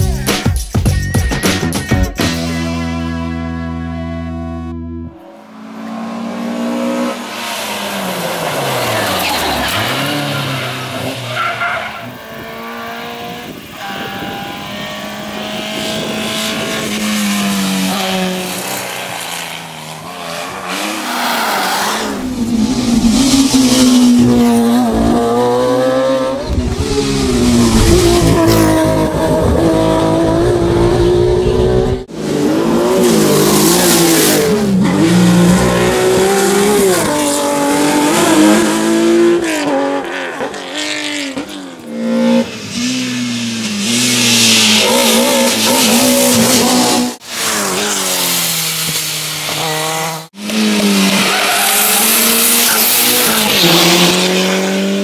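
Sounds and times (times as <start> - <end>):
rally car engines revving: 2.9 - 55.0.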